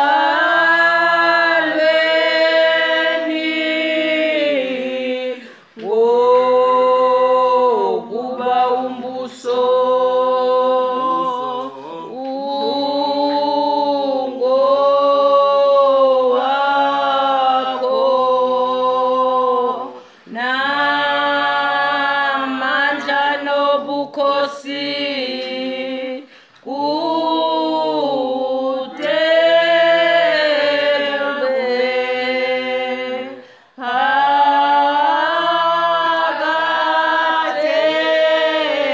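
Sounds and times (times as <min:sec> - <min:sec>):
women singing a hymn a cappella: 0:00.0 - 0:38.9.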